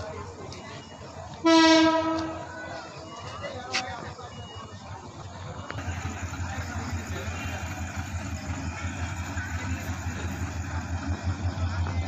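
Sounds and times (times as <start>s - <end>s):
diesel locomotive engine rumbling: 0.0s - 12.0s
people talking: 0.0s - 12.0s.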